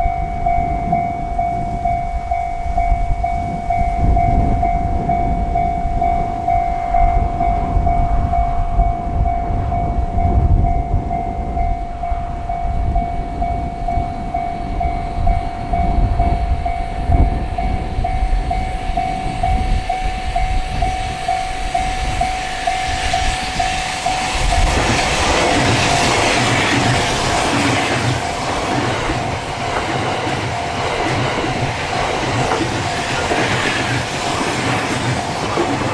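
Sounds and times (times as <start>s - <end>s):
electric train approaching: 0.0s - 35.9s
pulsing electronic warning tone: 0.0s - 35.9s.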